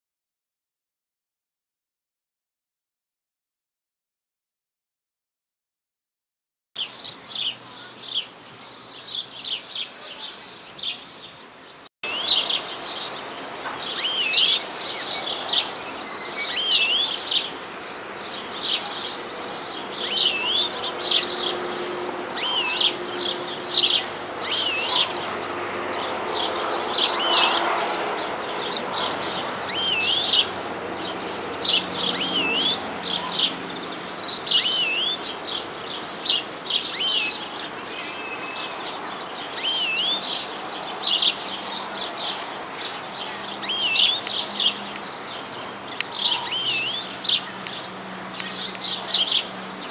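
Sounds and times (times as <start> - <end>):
greenfinch trilling song: 6.8 - 49.9.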